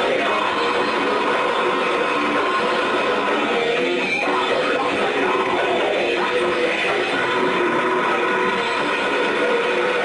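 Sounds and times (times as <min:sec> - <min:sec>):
heavy metal band playing: 0:00.0 - 0:10.0.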